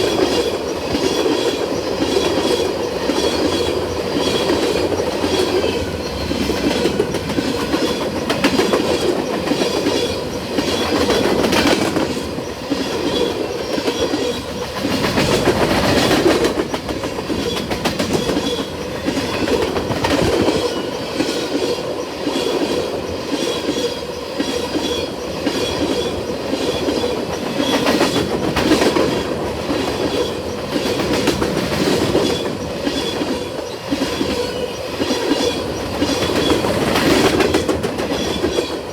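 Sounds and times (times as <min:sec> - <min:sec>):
train wheels clattering: 0:00.0 - 0:38.9.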